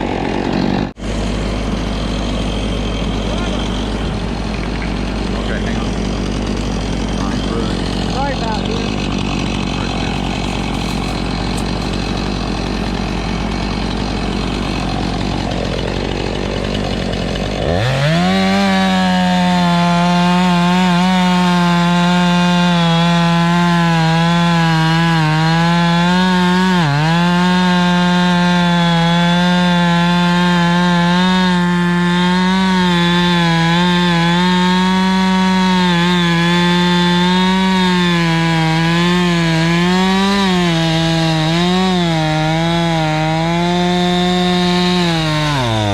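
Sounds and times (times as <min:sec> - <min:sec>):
chainsaw cutting through log: 0:00.0 - 0:45.9
rough engine running unevenly: 0:00.0 - 0:45.9.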